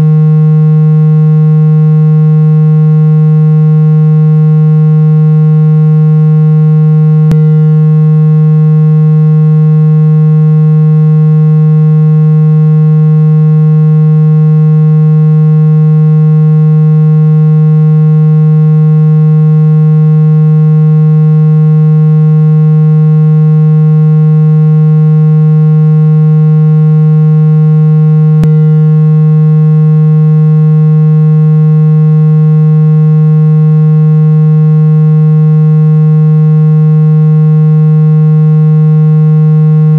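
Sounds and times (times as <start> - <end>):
low buzzy synthesized tone: 0.0 - 39.9.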